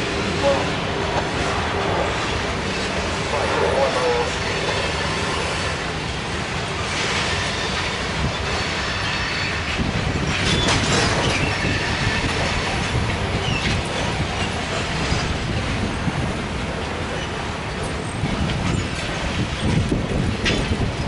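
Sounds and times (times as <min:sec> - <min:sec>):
steel wheels rumbling on rails: 0:00.0 - 0:21.0.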